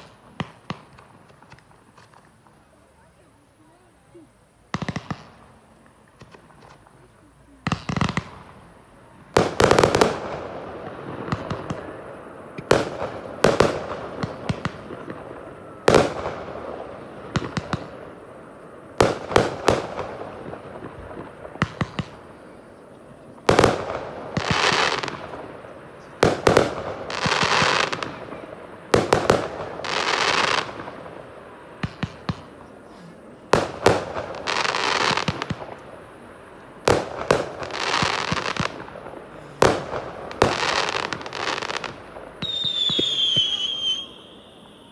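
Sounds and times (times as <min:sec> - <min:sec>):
firework crackle: 0:00.0 - 0:44.9.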